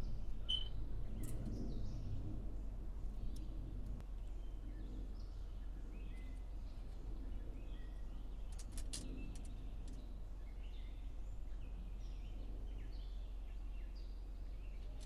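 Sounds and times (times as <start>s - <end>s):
birds chirping: 0.0s - 15.0s
steady low hum: 0.0s - 15.0s.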